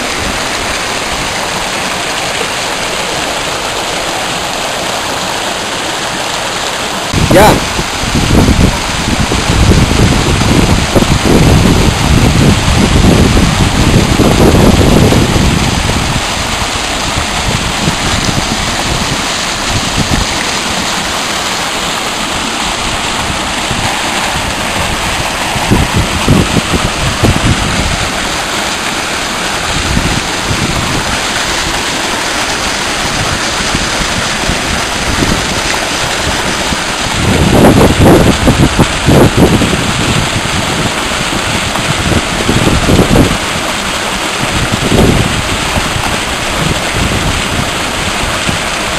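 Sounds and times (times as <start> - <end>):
river rushing: 0.0 - 48.9
wind gusting on microphone: 7.1 - 48.9.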